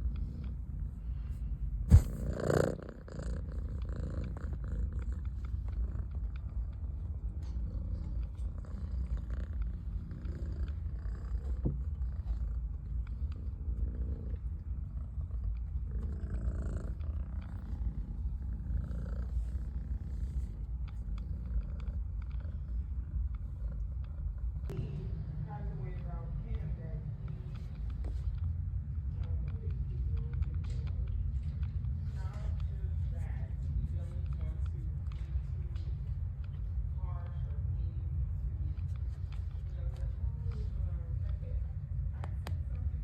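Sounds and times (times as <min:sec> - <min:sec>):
cat purring: 0:00.0 - 0:43.0.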